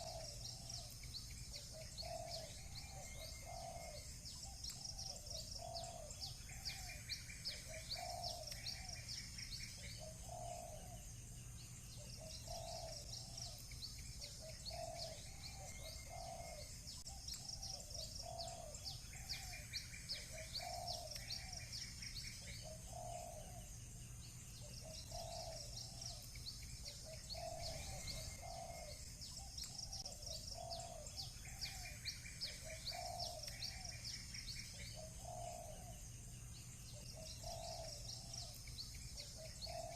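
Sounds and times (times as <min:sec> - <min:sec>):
doves cooing: 0:00.0 - 0:11.1, 0:12.0 - 0:23.8, 0:24.6 - 0:36.1, 0:36.9 - 0:39.9
small birds chirping: 0:00.0 - 0:39.9.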